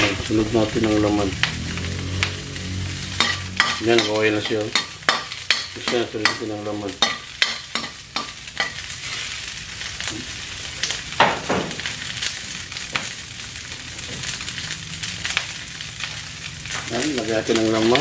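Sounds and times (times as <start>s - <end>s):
pork fat sizzling in a wok: 0.0s - 18.0s.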